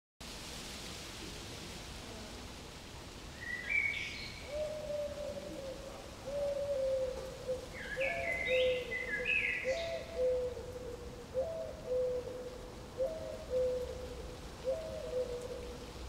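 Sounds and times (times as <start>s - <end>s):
soft steady hiss: 0.2s - 16.0s.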